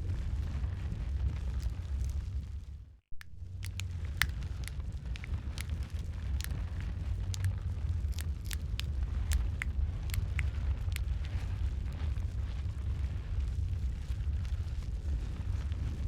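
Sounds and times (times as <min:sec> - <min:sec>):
wood fire crackling: 0:00.0 - 0:16.0
sharp pops and snaps of fire: 0:00.3 - 0:16.0.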